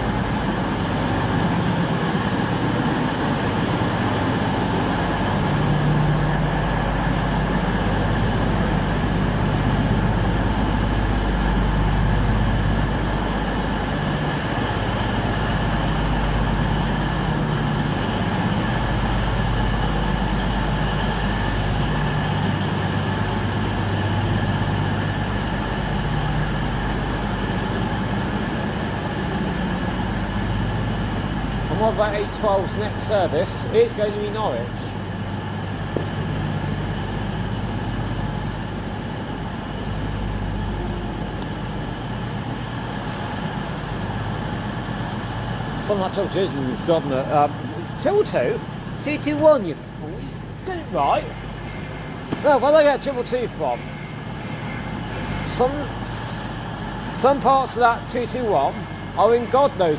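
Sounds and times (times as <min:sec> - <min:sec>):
diesel train engines running: 0:00.0 - 0:59.9.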